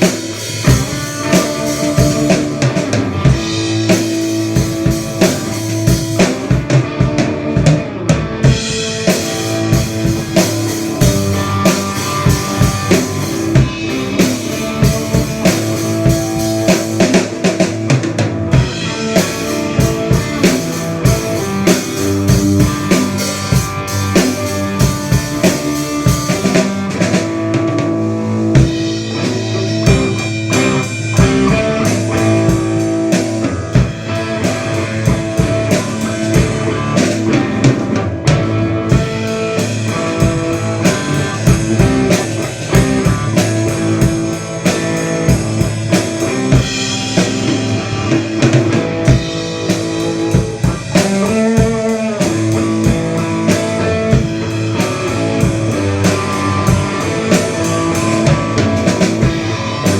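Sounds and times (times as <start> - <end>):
drum kit beat: 0.0 - 59.9
guitar: 0.0 - 59.9.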